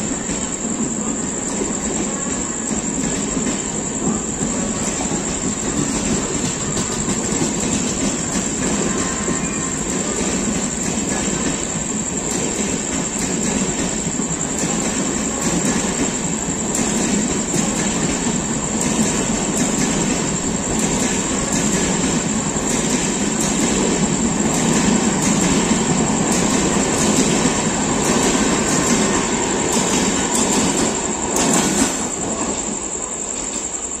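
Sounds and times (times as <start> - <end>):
passenger coaches rumbling past: 0.0 - 34.0
wheels clacking over rail joints: 3.1 - 32.2.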